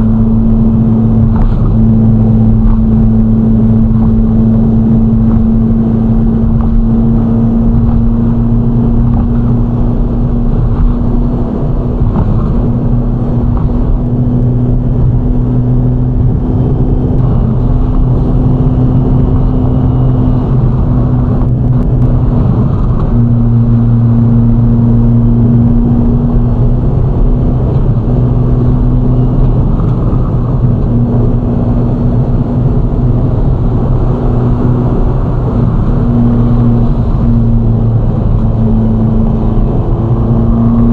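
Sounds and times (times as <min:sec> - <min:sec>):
car engine cruising drone: 0:00.0 - 0:40.9.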